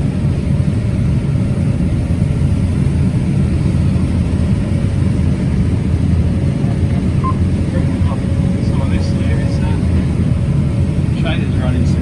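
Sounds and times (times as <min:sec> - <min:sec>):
combine harvester engine rumble: 0:00.0 - 0:12.0.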